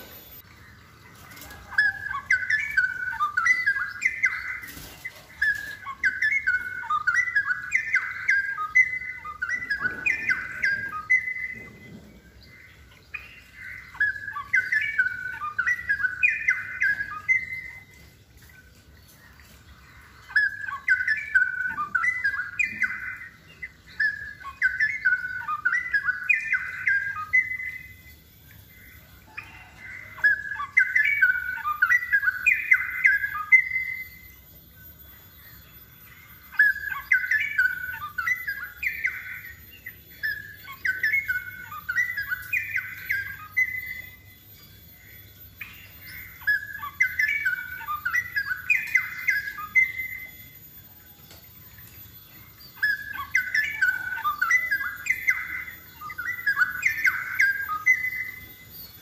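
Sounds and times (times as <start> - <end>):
bird singing rapid runs: 0.0 - 59.0.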